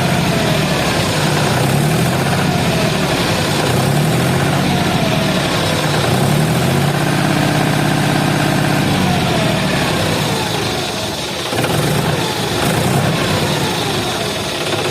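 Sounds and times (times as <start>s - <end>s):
heavy machine engine running: 0.0s - 14.9s.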